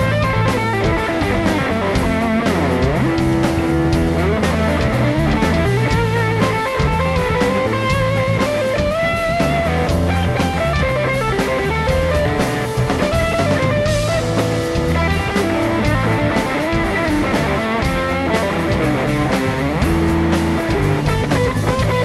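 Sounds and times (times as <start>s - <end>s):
bass guitar: 0.0s - 22.0s
drums: 0.0s - 22.0s
electric guitar lead line: 0.0s - 22.0s.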